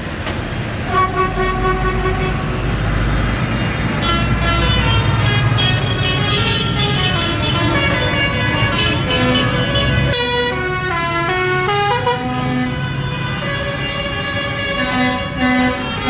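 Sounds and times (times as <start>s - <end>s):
vehicle engines running: 0.0s - 16.0s
vehicle horns sounding: 0.9s - 2.7s, 3.6s - 16.0s.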